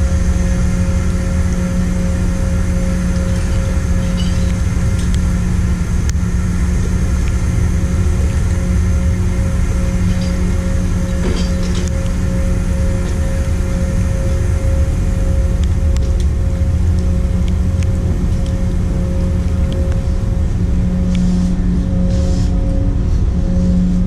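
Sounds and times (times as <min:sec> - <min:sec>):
ship engines humming: 0:00.0 - 0:24.0.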